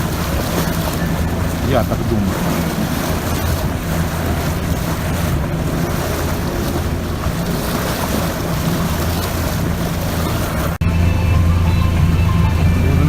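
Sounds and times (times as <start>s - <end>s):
motorboat engine hum: 0.0s - 13.0s
water rushing: 0.0s - 13.0s
wind buffeting microphone: 0.0s - 13.0s.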